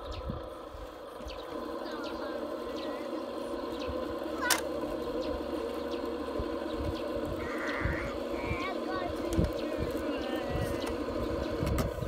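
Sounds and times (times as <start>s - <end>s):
birds chirping: 0.0s - 12.0s
model bulldozer mechanical hum: 0.0s - 12.0s.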